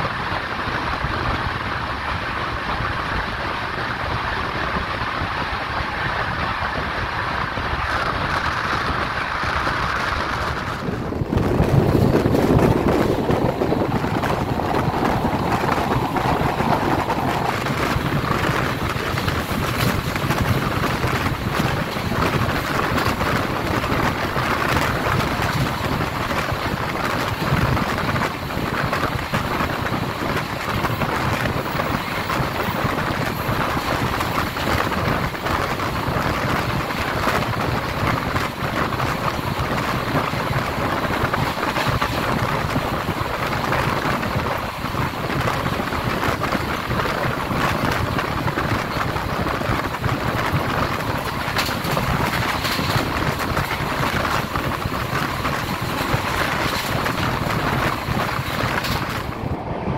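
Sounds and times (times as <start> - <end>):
train wheels rumbling on rail: 0.0 - 59.9
wind buffeting microphone: 0.0 - 59.9.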